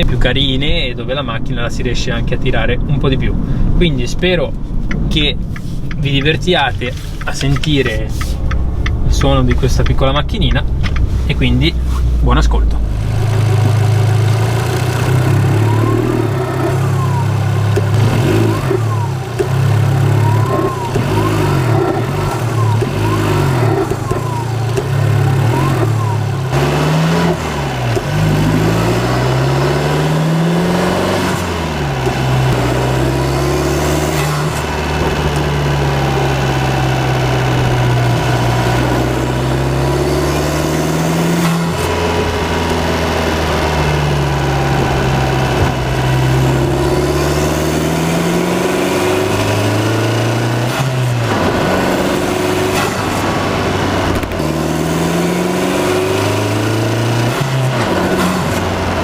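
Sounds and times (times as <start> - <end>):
car engine revving: 3.1 - 59.0.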